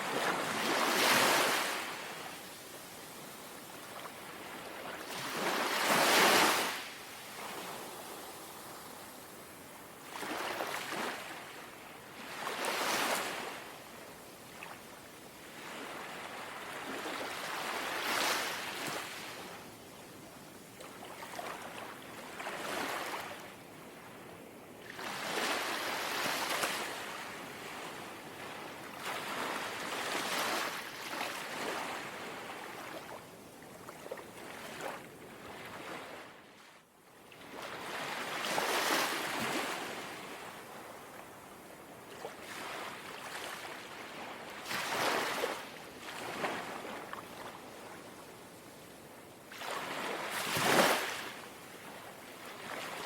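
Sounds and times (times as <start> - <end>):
small waves lapping at shore: 0.0 - 53.0.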